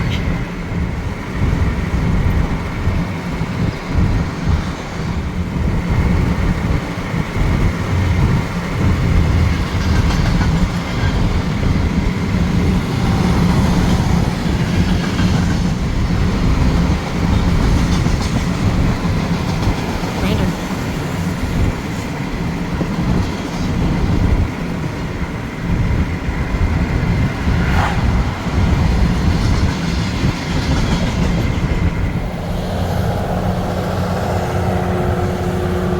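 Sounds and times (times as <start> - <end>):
freight train rumble: 0.0 - 35.9
wheels clicking over rail joints: 0.0 - 35.9.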